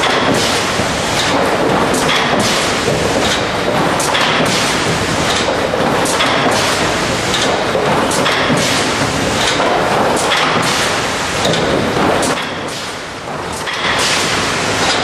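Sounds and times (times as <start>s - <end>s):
machine clatter with sharp clacks: 0.0s - 15.0s.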